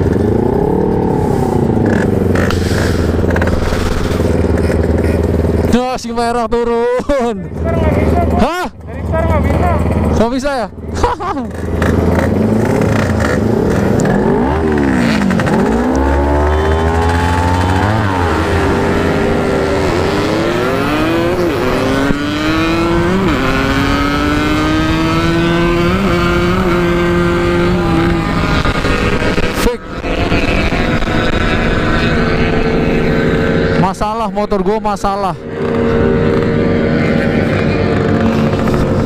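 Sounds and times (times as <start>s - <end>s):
motorcycle engines revving high: 0.0s - 39.0s.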